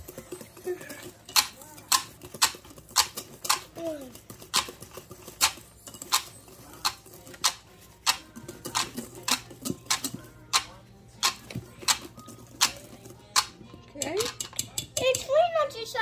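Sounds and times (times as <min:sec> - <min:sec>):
whisk clicking in metal bowl: 0:00.0 - 0:15.5.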